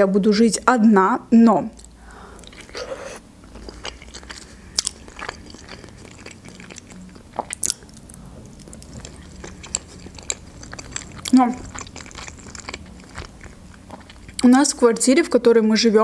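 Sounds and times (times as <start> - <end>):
person chewing dumplings: 1.7 - 14.6.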